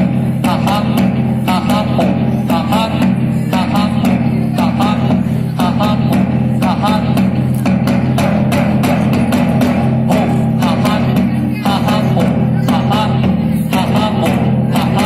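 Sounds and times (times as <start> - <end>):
driving drumbeat: 0.0 - 15.0
person singing: 0.0 - 15.0.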